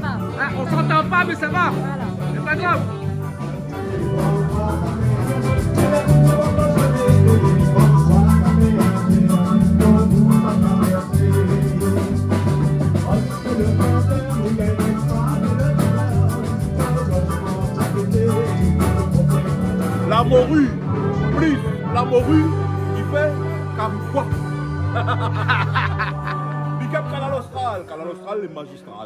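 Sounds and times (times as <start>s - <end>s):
drums: 0.0s - 26.4s
electric guitar: 0.0s - 27.2s
bass guitar: 0.0s - 27.9s
keyboard: 0.0s - 29.0s.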